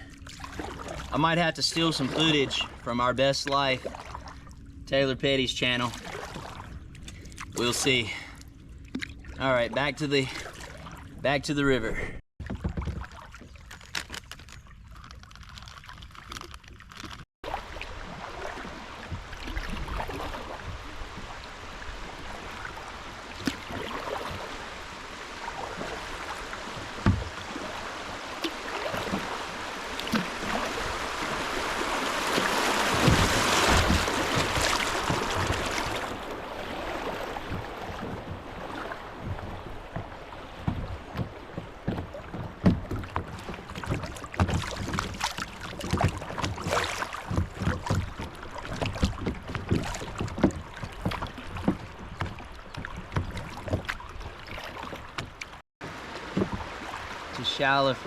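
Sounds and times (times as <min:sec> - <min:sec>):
water splashing around kayaks: 0:00.0 - 0:58.0.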